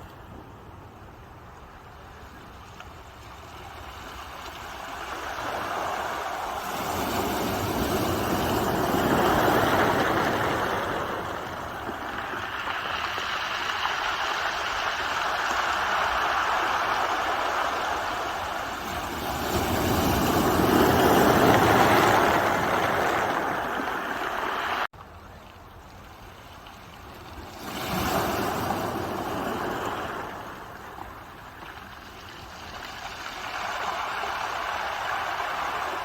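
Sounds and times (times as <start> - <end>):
ocean waves washing ashore: 0.0 - 24.9, 26.6 - 36.0.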